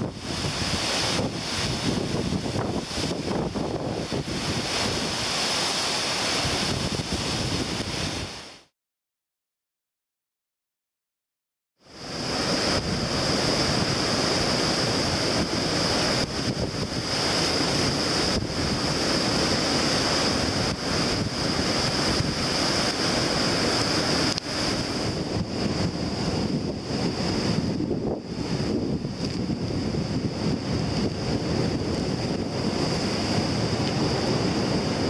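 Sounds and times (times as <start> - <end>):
surf breaking on rocks: 0.0 - 8.6, 12.0 - 35.0
wind gusting over microphone: 0.0 - 8.7, 11.9 - 35.0.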